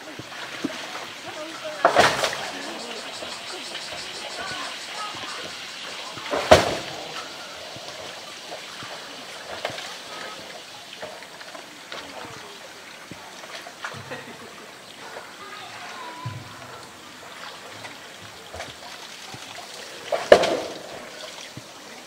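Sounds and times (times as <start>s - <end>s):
running water trickling: 0.0s - 22.0s.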